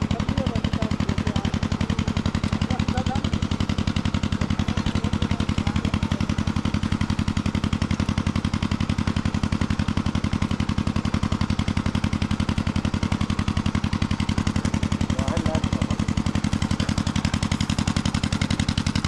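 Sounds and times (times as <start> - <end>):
engine running with deep beat: 0.0 - 19.0.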